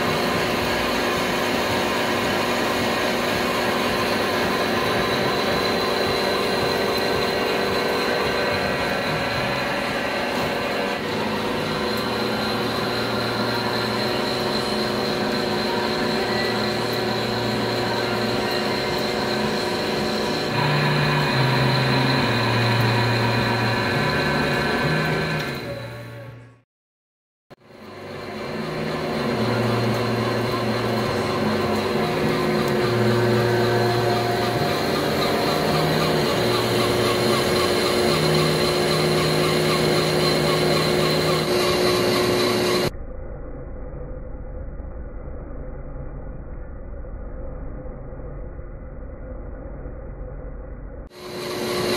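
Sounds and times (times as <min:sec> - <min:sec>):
lathe machining steel with whine: 0:00.0 - 0:26.4, 0:27.6 - 0:42.9, 0:51.1 - 0:51.9.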